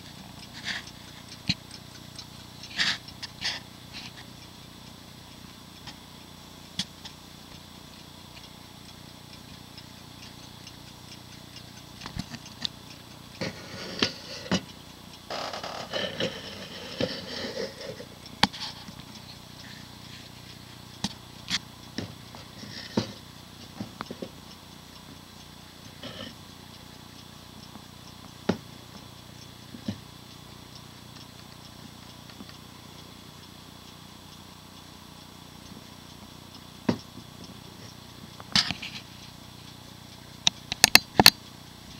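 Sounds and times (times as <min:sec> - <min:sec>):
mantel clock ticking: 0:00.0 - 0:41.9.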